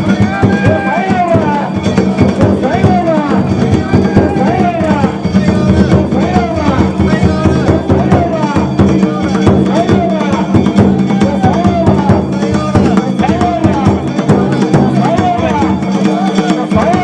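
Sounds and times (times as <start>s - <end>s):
festival drums: 0.0s - 17.0s.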